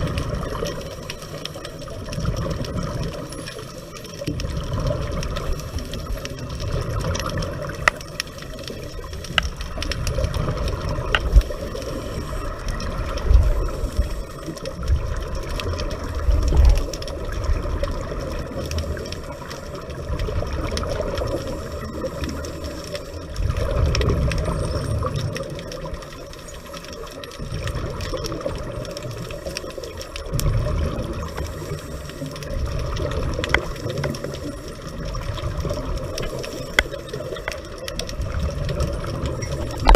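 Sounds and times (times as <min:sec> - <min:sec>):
exhaled bubbles rumbling: 0:00.0 - 0:39.9
faint clicks: 0:00.0 - 0:39.9.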